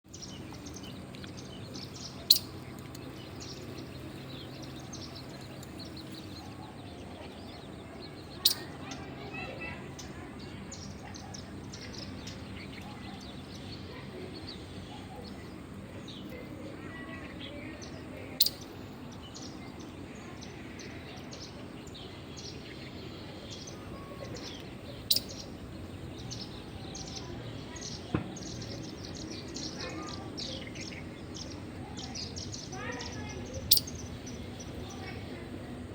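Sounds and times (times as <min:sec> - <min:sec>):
birds twittering: 0:00.0 - 0:35.9.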